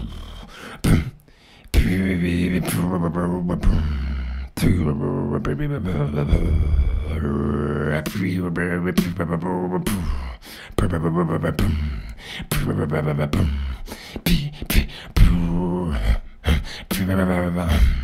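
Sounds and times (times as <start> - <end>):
man beatboxing: 0.0 - 1.2, 1.8 - 18.0.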